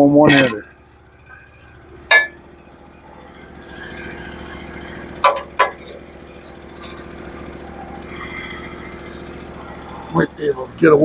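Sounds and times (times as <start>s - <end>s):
gas engine running: 0.0s - 11.0s.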